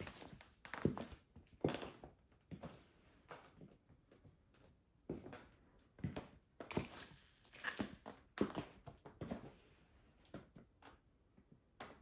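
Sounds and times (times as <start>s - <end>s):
boot footsteps on tile: 0.0s - 10.6s.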